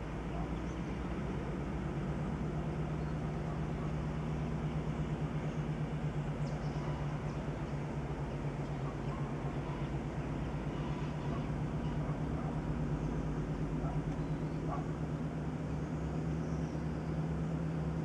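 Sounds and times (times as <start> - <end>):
diesel locomotive engine droning: 0.0 - 18.0.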